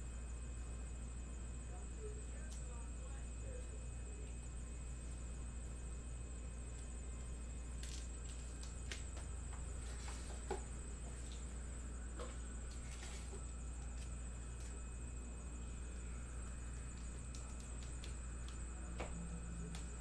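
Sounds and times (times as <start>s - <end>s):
faint high-pitched whine: 0.0s - 20.0s
steady electrical hum: 0.0s - 20.0s.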